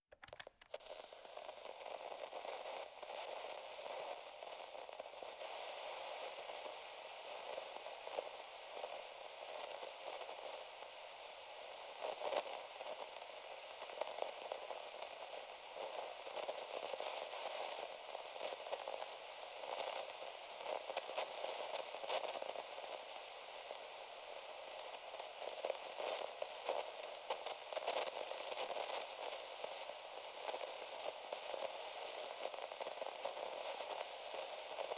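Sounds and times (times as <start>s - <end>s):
radio static hiss with crackles: 0.2s - 34.9s.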